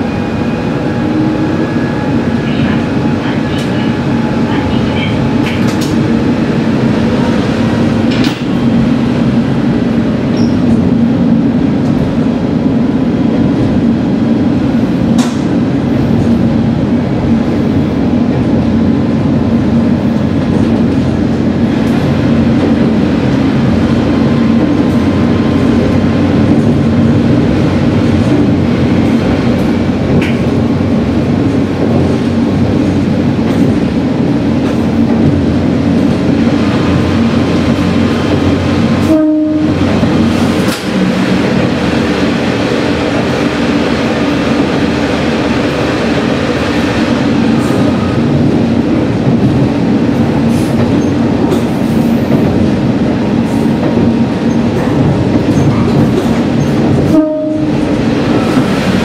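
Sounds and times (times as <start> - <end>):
rail joint clicks: 0.0 - 12.3, 14.6 - 59.0
diesel railcar engine drone: 0.0 - 59.0
wheels rumbling on rails: 0.0 - 59.0.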